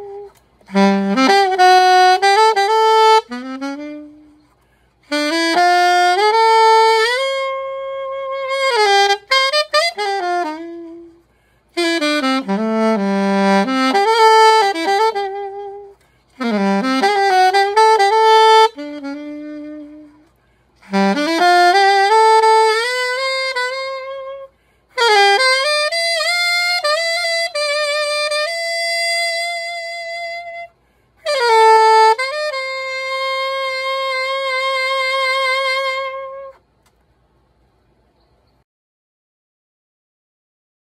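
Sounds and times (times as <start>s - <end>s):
alto saxophone solo: 0.0s - 36.9s.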